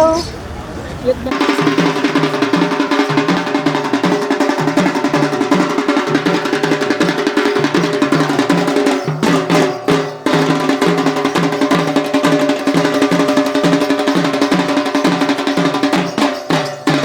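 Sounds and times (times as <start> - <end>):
fast folk dance drumming: 1.3 - 17.0.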